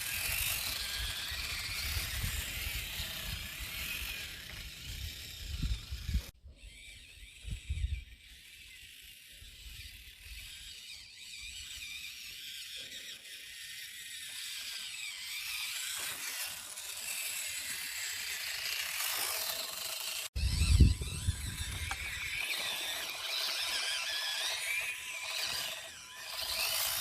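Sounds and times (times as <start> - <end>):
small electric motor whining: 0.0 - 27.0.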